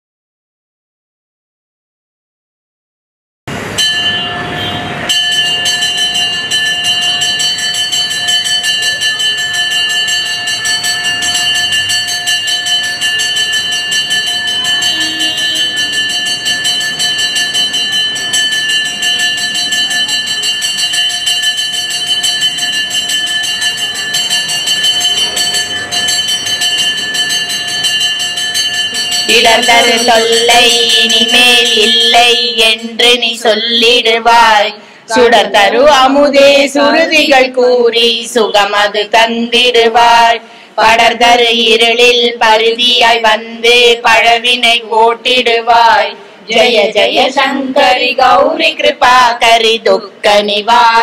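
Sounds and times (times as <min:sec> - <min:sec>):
temple bell ringing rapidly: 0:03.6 - 0:49.8.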